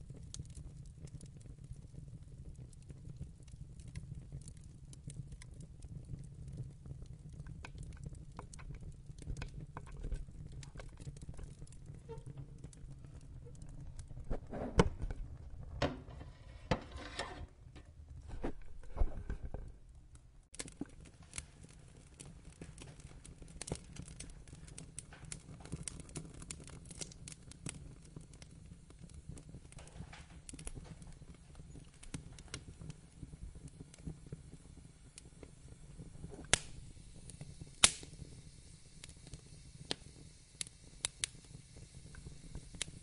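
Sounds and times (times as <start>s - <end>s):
loud pops of fire: 0.0s - 19.7s, 20.5s - 43.0s
low rumble of flame: 0.0s - 43.0s
wood fire crackling and snapping: 0.0s - 43.0s.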